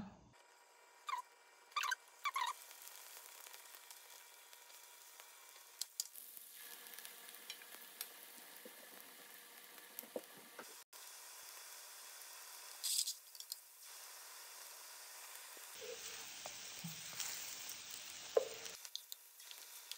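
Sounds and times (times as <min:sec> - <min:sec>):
dumplings sizzling in oil: 0:00.4 - 0:19.9.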